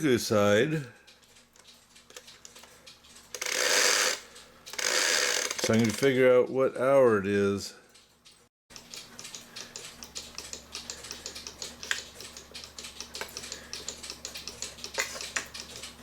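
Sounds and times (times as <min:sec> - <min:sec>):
clock movement clicking: 0:01.0 - 0:06.3, 0:07.9 - 0:16.0.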